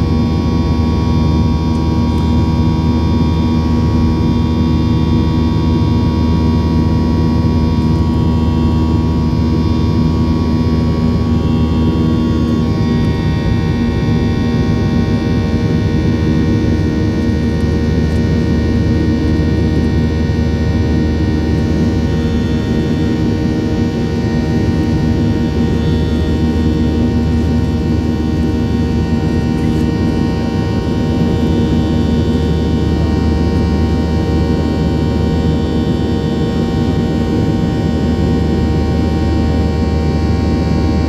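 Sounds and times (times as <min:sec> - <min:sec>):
jet engine drone in cabin: 0:00.0 - 0:41.0.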